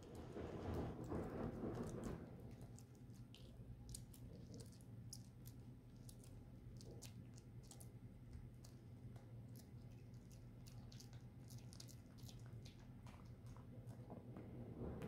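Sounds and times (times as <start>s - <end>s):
low steady hum: 0.0s - 15.0s
dog teeth clicking on chew: 1.6s - 14.0s.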